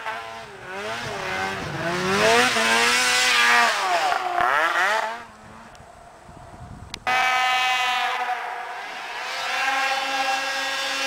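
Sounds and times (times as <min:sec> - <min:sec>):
snowmobile engine revving: 0:00.0 - 0:05.8, 0:07.0 - 0:11.0.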